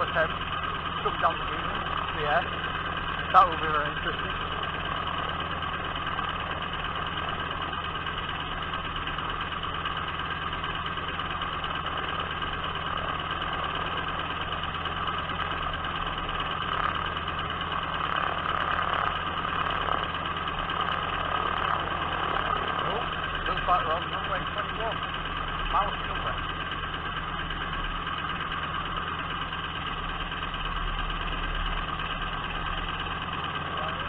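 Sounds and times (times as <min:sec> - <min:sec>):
propeller plane engine running: 0:00.0 - 0:34.0.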